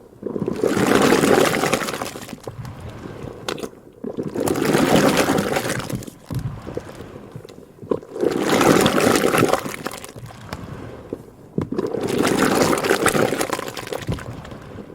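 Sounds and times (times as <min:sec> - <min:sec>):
liquid rushing and splashing: 0:00.1 - 0:14.9.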